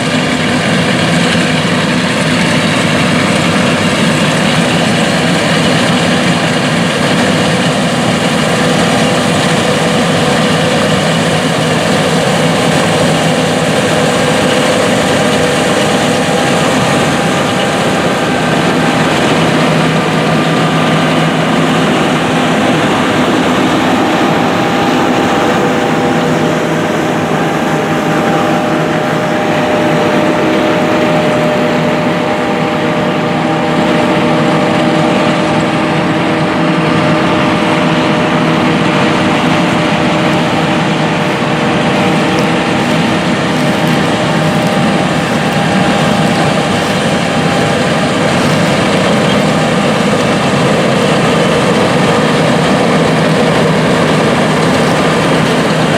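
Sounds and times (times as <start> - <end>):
farm machine diesel engines: 0.0 - 55.9.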